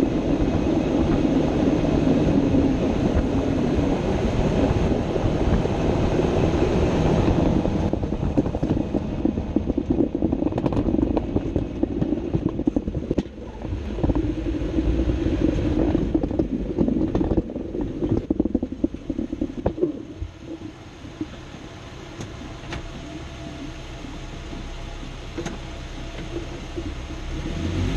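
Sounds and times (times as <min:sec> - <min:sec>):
vehicle underbody rumble: 0:00.0 - 0:27.9.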